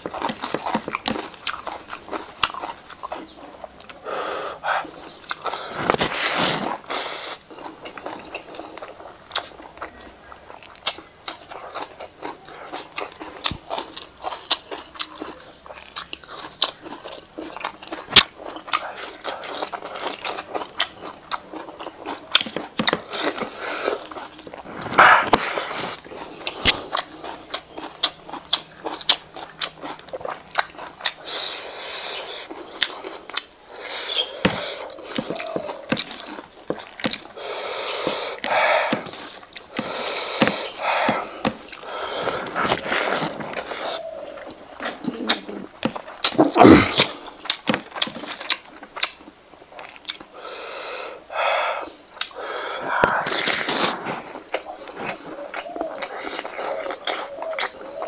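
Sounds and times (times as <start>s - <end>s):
chewing and lip smacks: 0.0s - 50.4s, 51.8s - 58.0s.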